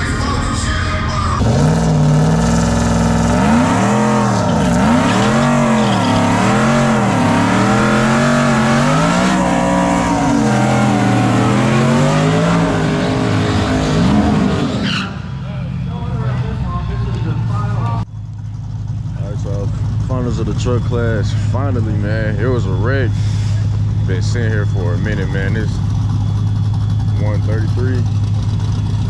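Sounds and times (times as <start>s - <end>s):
drag-racing engine revving: 0.0s - 29.0s.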